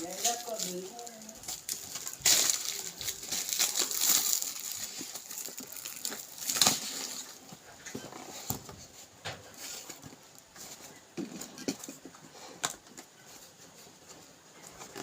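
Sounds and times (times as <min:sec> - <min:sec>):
packaging rustling and crinkling: 0:00.0 - 0:12.1, 0:12.7 - 0:15.0.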